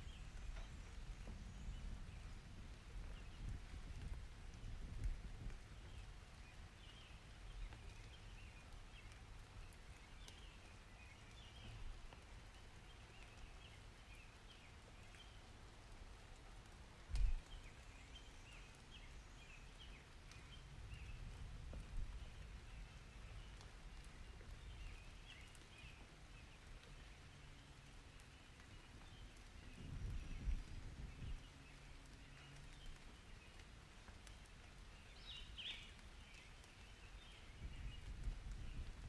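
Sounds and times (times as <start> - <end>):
small birds chirping: 5.6 - 15.6, 17.1 - 39.0.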